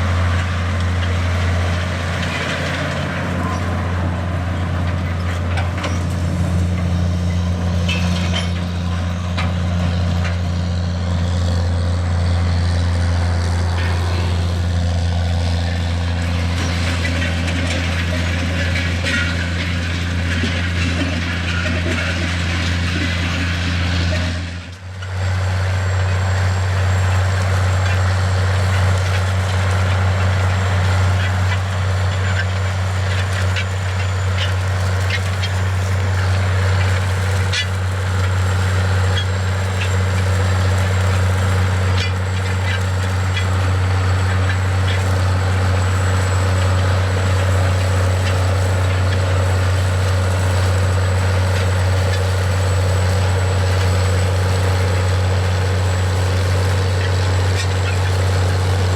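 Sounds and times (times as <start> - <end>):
tractor diesel engine drone: 0.0 - 58.9.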